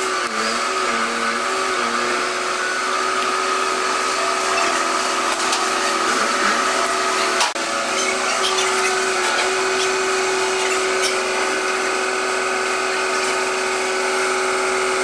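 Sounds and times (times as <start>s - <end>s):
forklift engine whining hum: 0.0s - 15.0s.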